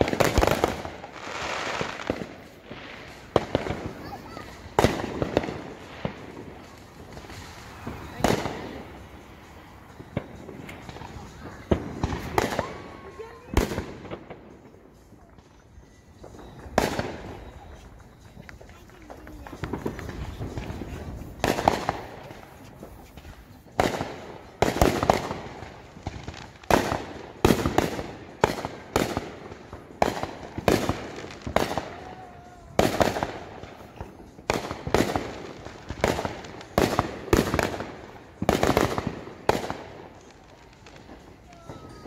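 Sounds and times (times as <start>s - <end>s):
fireworks bangs: 0.0s - 42.0s.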